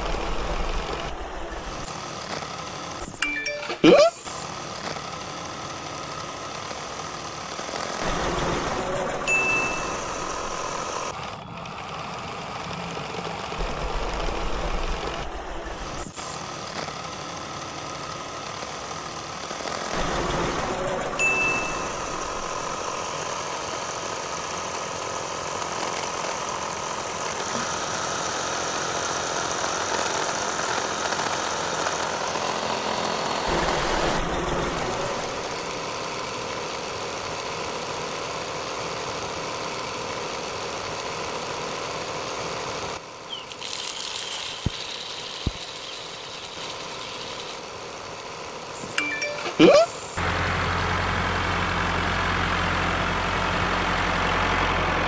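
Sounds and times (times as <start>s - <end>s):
small electric motor running: 0.0s - 3.2s, 4.2s - 49.0s.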